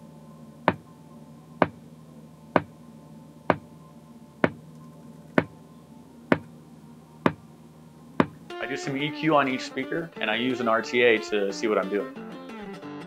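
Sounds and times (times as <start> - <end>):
faint steady hum: 0.0 - 12.4.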